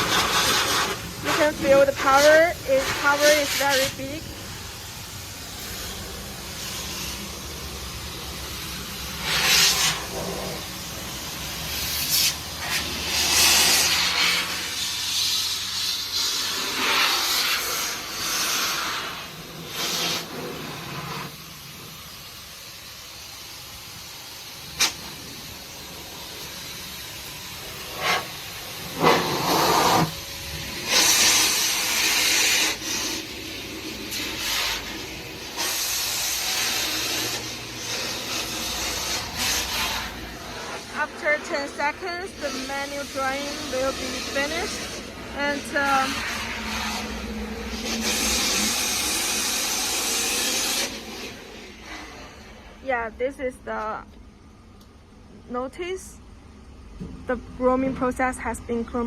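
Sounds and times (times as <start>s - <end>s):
blow dryer blowing air: 0.0s - 52.9s.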